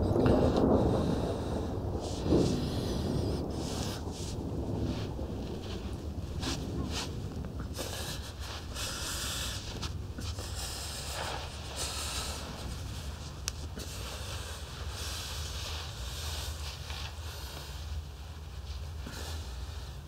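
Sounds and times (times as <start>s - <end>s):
low steady hum: 0.0s - 20.0s
man breathing heavily: 0.0s - 20.0s.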